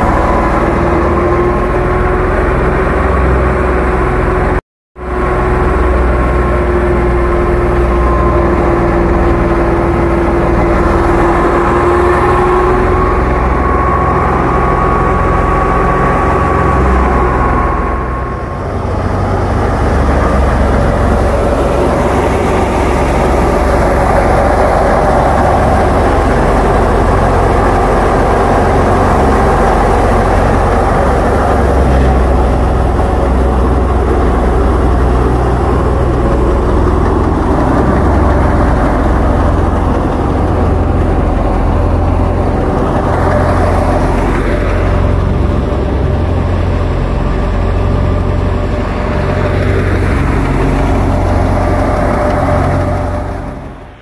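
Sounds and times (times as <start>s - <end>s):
low engine hum: 0.0s - 54.0s
wheat thresher running: 0.0s - 54.0s.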